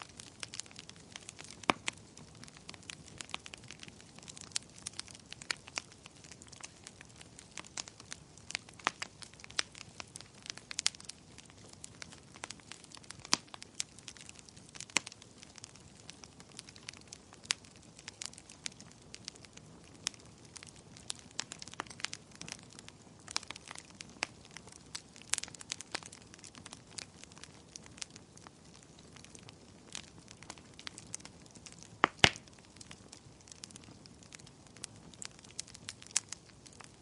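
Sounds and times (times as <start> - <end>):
fire pops and snaps: 0.0 - 37.0
soft steady hiss: 0.0 - 37.0
wood fire crackling: 0.0 - 37.0.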